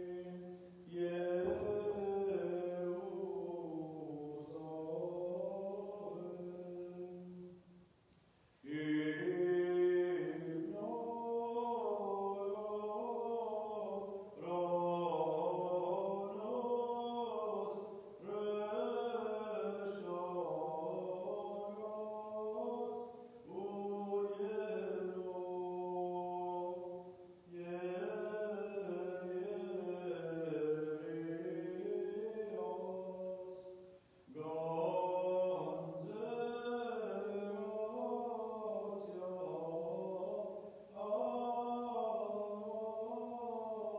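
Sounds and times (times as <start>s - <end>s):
man chanting a hymn: 0.0s - 7.6s, 8.6s - 43.9s.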